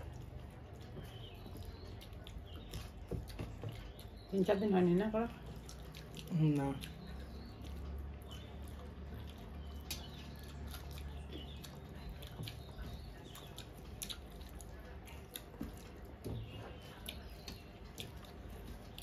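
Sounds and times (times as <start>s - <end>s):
fingers squelching food: 0.0s - 19.0s.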